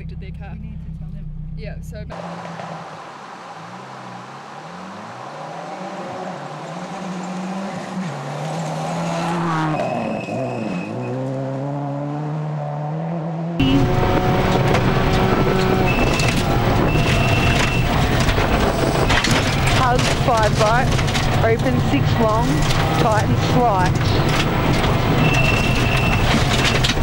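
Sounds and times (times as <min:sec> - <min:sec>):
road noise inside car: 0:00.0 - 0:27.0
rally car engine passing: 0:01.2 - 0:27.0.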